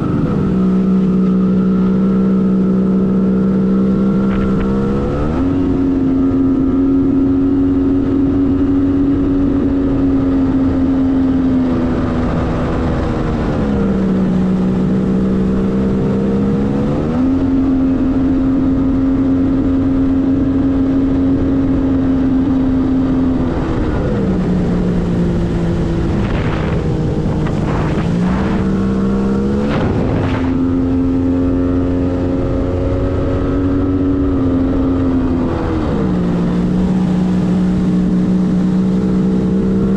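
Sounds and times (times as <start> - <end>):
personal watercraft engine running: 0.0 - 39.9.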